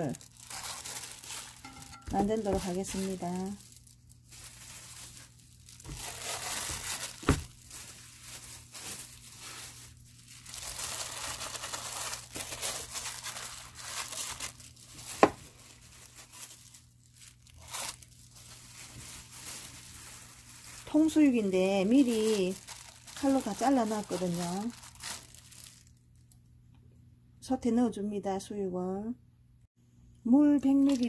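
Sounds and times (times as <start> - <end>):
plastic glove crinkling: 0.0 - 26.4, 30.6 - 31.0.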